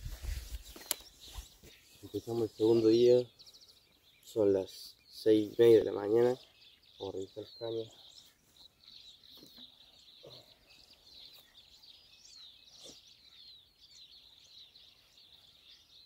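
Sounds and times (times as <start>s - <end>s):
small birds chirping and twittering: 0.0s - 16.0s.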